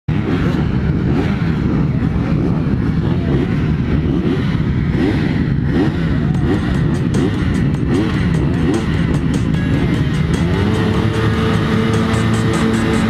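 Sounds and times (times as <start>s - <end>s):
dirt bike engines revving: 0.1s - 13.0s
low rumble: 0.1s - 13.0s.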